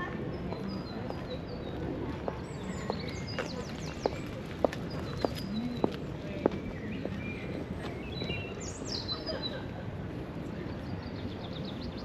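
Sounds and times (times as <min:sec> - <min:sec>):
park background hum: 0:00.0 - 0:12.0.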